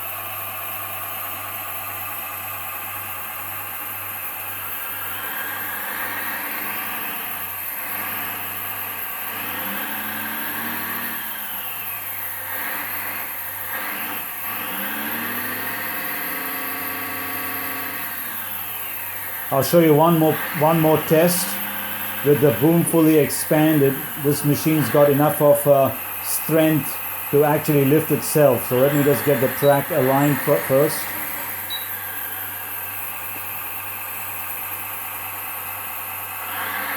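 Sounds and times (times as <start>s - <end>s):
hydraulic pump and motors whining: 0.0s - 36.9s
toy excavator engine hum: 0.0s - 36.9s.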